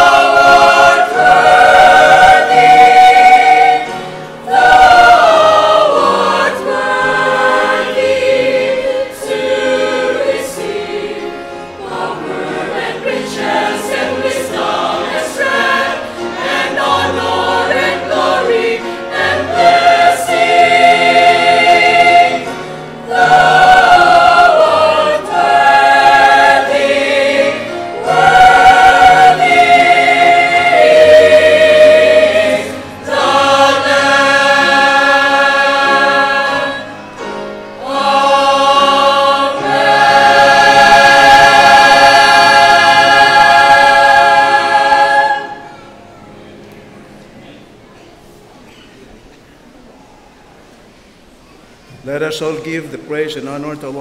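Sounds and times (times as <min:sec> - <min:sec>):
mixed choir singing: 0:00.0 - 0:46.1.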